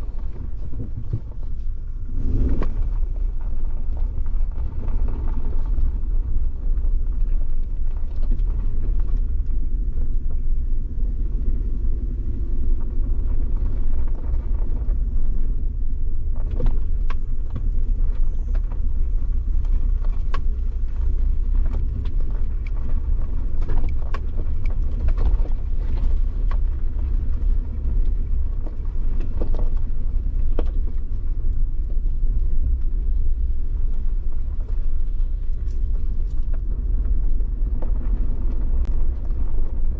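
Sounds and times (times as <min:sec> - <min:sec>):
engine and tyres rumbling: 0:00.0 - 0:39.9.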